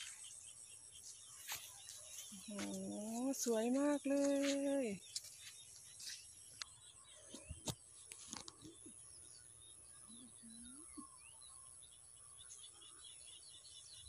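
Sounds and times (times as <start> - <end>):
bird calls: 0.0 - 14.0.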